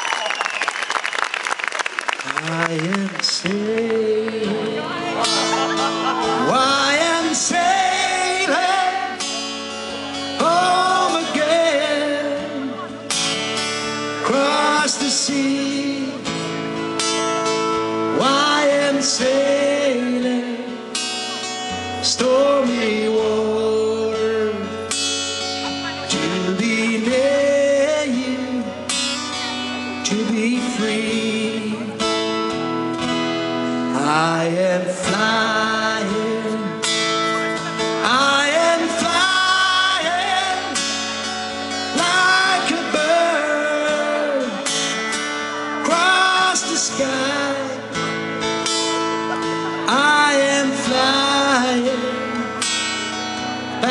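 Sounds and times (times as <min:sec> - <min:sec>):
man singing into a microphone: 0:02.2 - 0:13.3, 0:14.1 - 0:16.8, 0:17.8 - 0:25.0, 0:25.8 - 0:32.5, 0:33.6 - 0:48.8, 0:49.6 - 0:52.8, 0:53.7 - 0:53.9
strummed acoustic guitar: 0:02.3 - 0:53.9.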